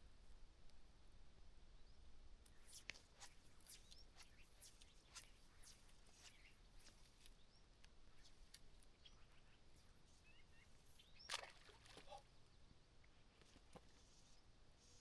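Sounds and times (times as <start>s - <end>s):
faint bird chirps: 1.7s - 15.0s.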